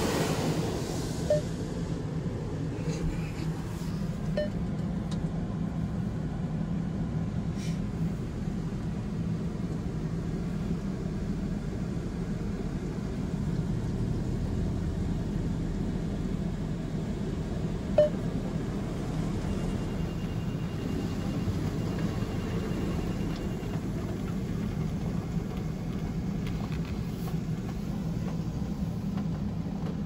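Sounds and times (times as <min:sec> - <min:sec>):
low rumble in car cabin: 0:00.0 - 0:30.0.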